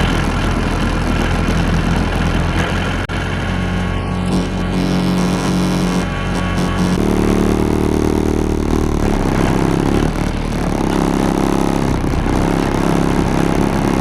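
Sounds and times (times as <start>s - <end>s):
mechanical clatter: 0.0s - 14.0s
tractor engine revving: 0.0s - 14.0s.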